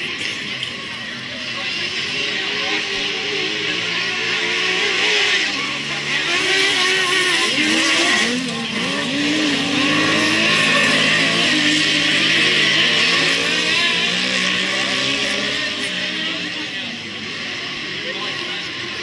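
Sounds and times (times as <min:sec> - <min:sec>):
race car engines revving and passing: 0:00.0 - 0:19.0.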